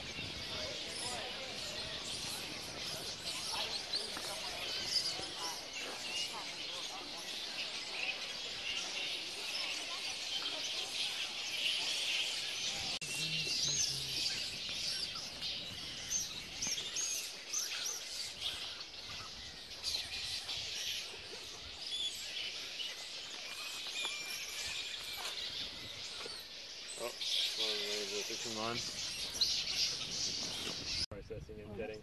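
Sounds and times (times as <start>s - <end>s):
bats squealing and chirping: 0.0s - 31.1s.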